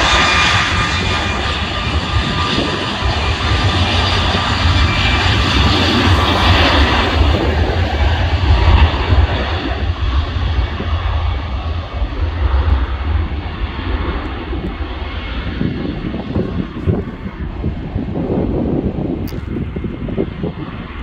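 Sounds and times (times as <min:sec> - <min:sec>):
jet engines at takeoff power: 0:00.0 - 0:21.0.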